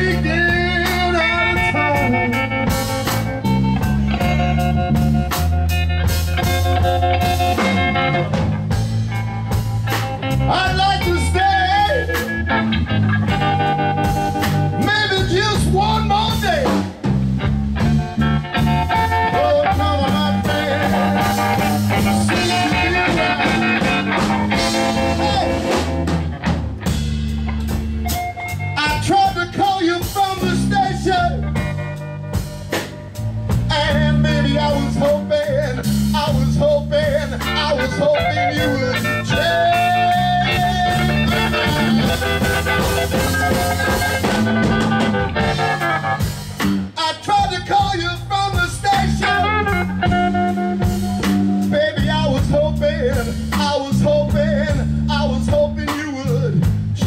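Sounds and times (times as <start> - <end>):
lead guitar melody: 0.0 - 56.6
electric blues band playing: 0.0 - 57.0.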